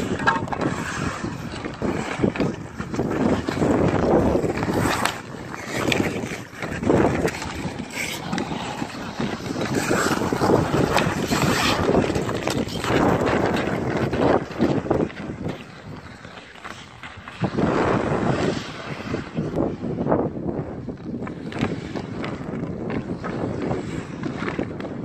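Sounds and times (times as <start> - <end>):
sticks and puck clacking: 0.0 - 20.0, 20.8 - 25.0
skate blades scraping ice: 0.0 - 25.0
wind buffeting microphone: 0.0 - 25.0.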